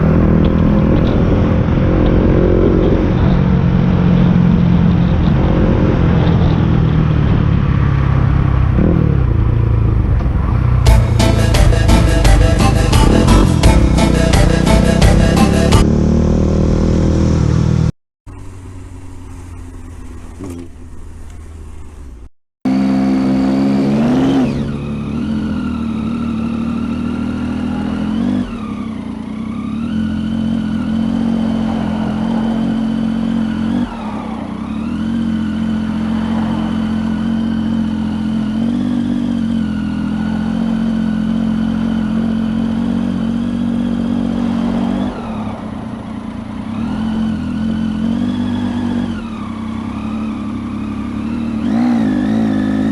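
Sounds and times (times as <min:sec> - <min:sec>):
motorcycle engine riding along: 0:00.0 - 0:52.9
traffic noise: 0:00.0 - 0:52.9.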